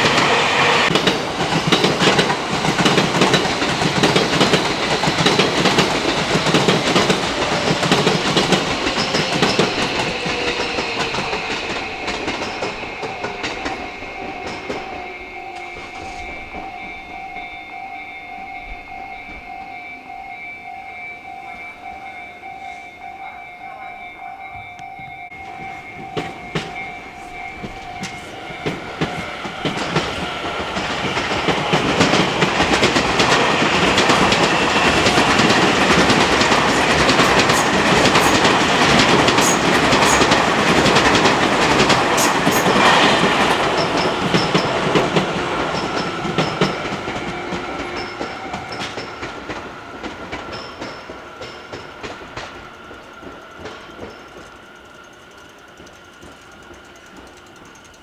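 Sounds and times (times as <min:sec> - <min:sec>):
electric train passing: 0:00.0 - 0:58.0
train wheels clacking over rail joints: 0:00.0 - 0:58.0.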